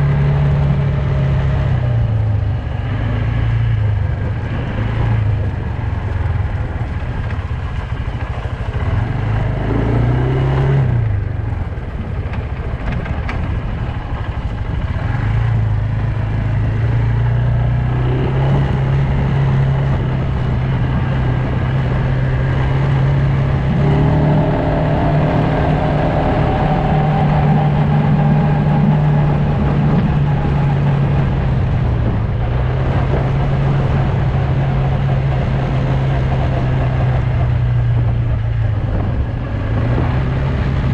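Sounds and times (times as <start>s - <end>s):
atv engine running: 0.0s - 40.9s
wind rush: 0.0s - 40.9s.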